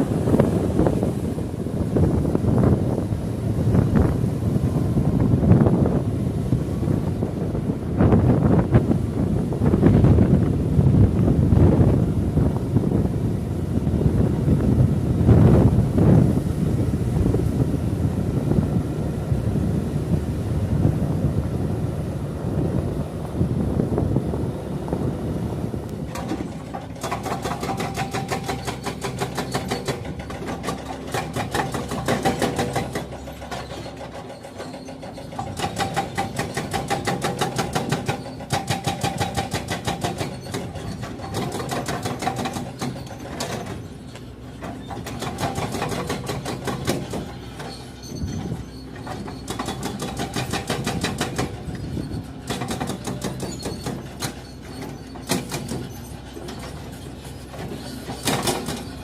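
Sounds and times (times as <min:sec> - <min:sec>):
diesel engine clattering: 0:00.0 - 0:59.0.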